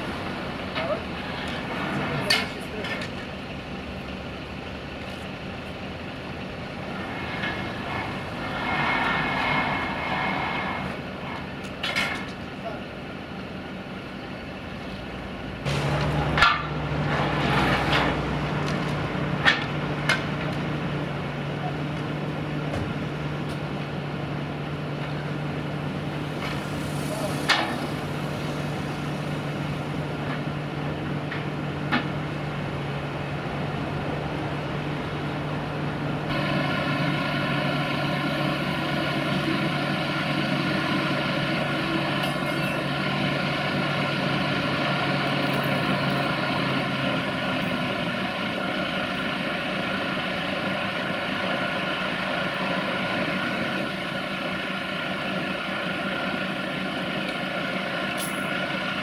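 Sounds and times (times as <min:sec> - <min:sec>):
heavy vehicle engine running: 0:00.0 - 0:59.0.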